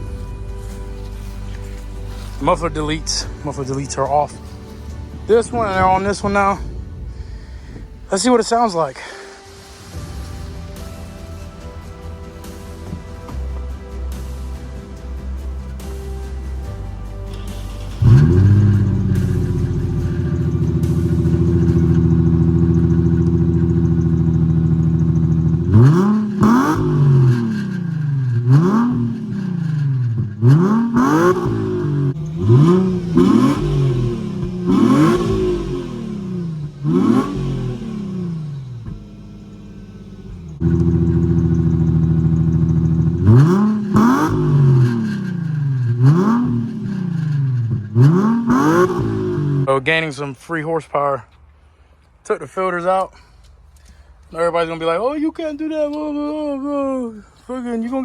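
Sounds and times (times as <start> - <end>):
car engine idling and revving: 0.0 - 49.8.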